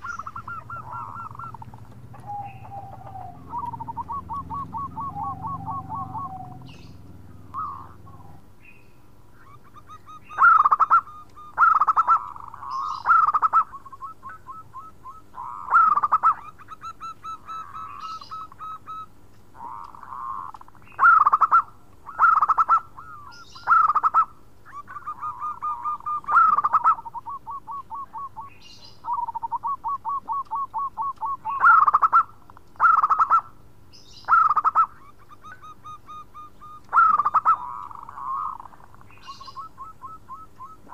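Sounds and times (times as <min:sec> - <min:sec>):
dove cooing: 0:00.0 - 0:08.5, 0:09.4 - 0:33.6, 0:34.2 - 0:40.9
small birds chirping: 0:00.0 - 0:40.9.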